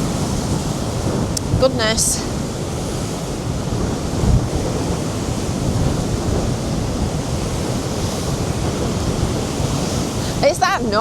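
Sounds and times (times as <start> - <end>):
sea waves breaking: 0.0 - 11.0
wind buffeting the microphone: 0.0 - 11.0.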